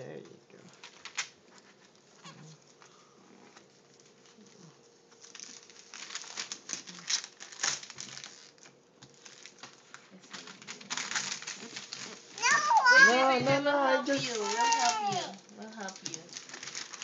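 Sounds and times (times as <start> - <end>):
wrapping paper tearing and crumpling: 0.8 - 2.0, 3.8 - 17.0.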